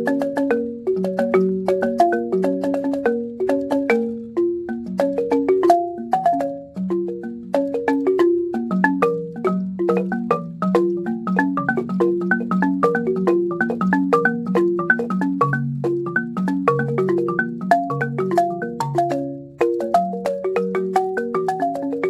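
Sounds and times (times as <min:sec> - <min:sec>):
balafon played with mallets: 0:00.0 - 0:22.0.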